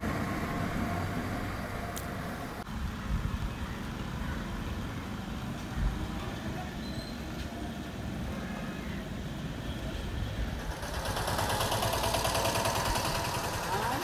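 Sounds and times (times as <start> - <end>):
passing vehicle hiss: 0.0 - 14.0
vehicle engines rumbling: 0.0 - 14.0.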